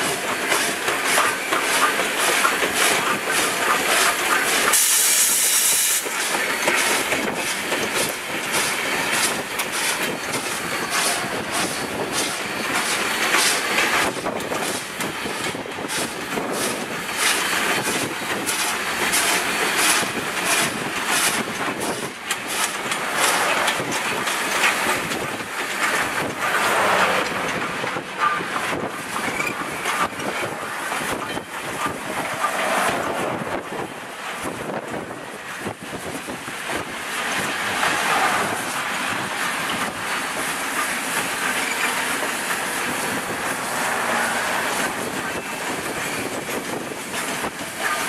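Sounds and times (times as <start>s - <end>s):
steam locomotive chuffing: 0.0s - 48.0s.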